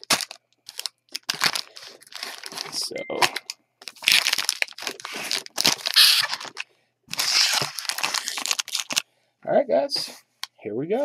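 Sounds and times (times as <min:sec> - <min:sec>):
plastic wrapper crinkling and tearing: 0:00.0 - 0:09.1.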